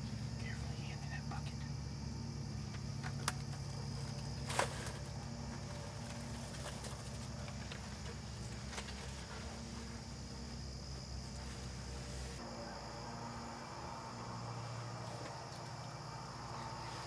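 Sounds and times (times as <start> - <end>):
insects droning: 0.0 - 17.0
low steady hum: 0.0 - 17.0.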